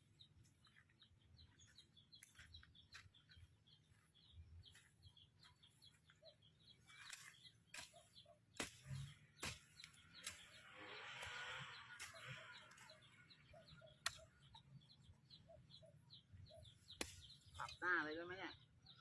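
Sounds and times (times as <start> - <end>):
high-pitched bird chirping: 0.0 - 19.0.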